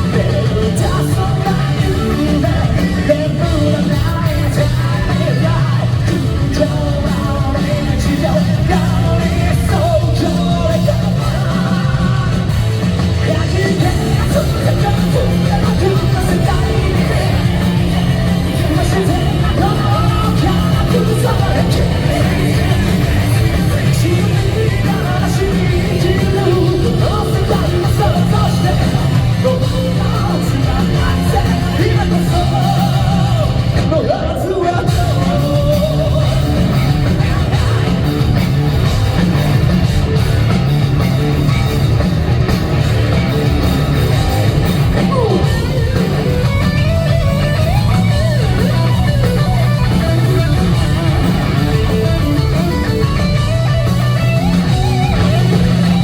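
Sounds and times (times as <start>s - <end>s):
man singing: 0.0s - 39.0s, 44.6s - 56.0s
live rock band playing: 0.0s - 56.0s.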